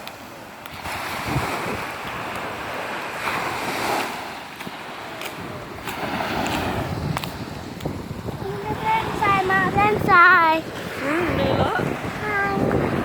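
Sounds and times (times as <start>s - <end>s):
waves washing onto beach: 0.0s - 13.0s
wind on microphone: 0.6s - 13.0s.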